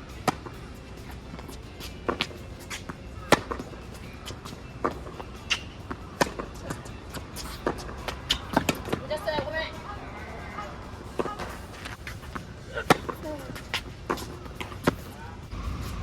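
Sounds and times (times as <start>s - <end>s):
racket striking tennis ball: 0.0s - 10.0s, 10.6s - 16.0s
tennis ball bouncing: 0.0s - 16.0s.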